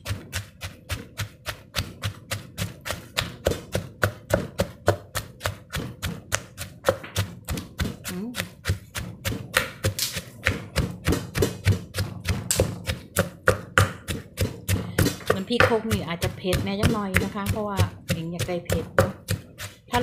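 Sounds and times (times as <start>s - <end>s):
wooden pestle pounding in mortar: 0.0s - 20.0s.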